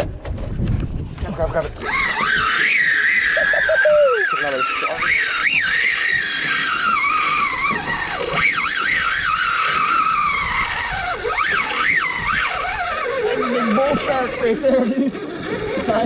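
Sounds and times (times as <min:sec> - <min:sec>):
fishing reel drag screaming: 0:01.8 - 0:16.0.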